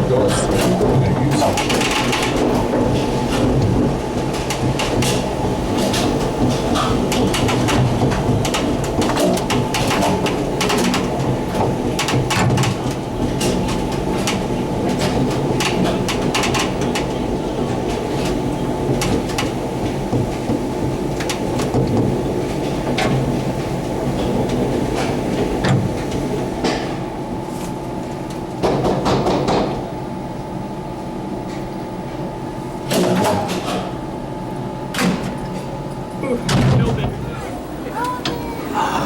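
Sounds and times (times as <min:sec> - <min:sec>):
tram capsule mechanical hum: 0:00.0 - 0:39.0.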